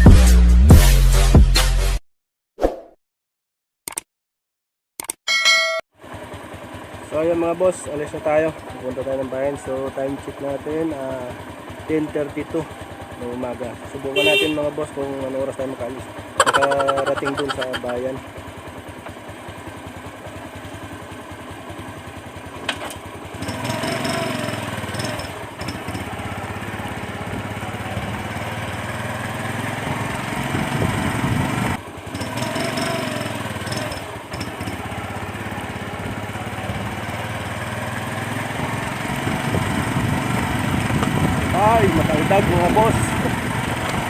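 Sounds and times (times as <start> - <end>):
small motorcycle engine: 6.0 - 44.0.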